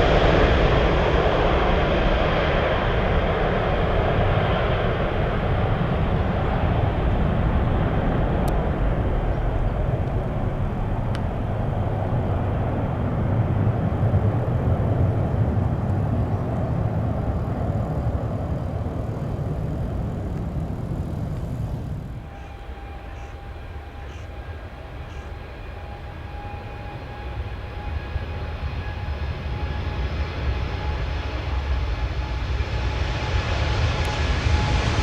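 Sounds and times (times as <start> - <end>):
jet engines roaring at takeoff: 0.0 - 35.0.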